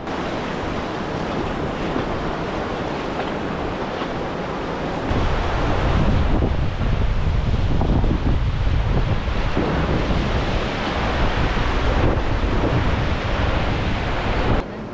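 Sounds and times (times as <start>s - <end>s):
river water rushing: 0.0s - 14.9s
wind buffeting microphone: 0.0s - 14.9s.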